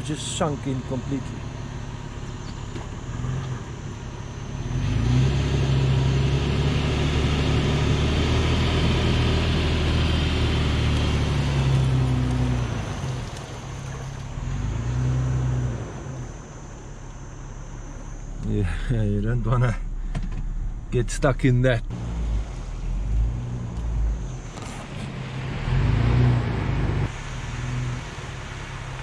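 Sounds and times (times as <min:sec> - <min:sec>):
vehicle engine revving: 0:00.0 - 0:29.0.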